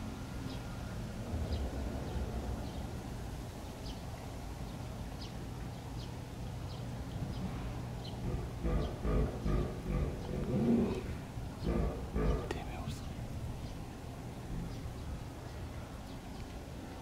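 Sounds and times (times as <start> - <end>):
steady low rumble: 0.0 - 17.0
small birds chirping: 0.2 - 17.0.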